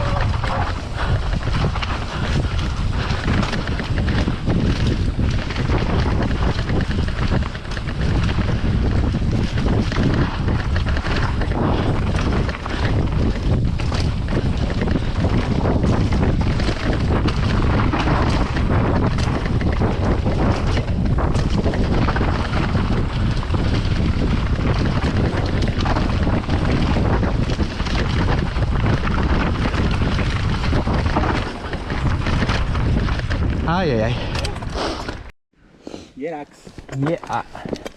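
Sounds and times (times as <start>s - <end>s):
bike clattering on rough trail: 0.0s - 35.3s, 36.6s - 37.9s
wind buffeting microphone: 0.0s - 35.3s.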